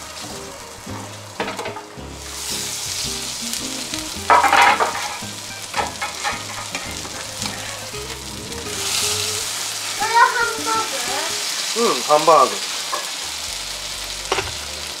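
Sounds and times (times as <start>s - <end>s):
patties sizzling in frying pan: 0.0s - 15.0s.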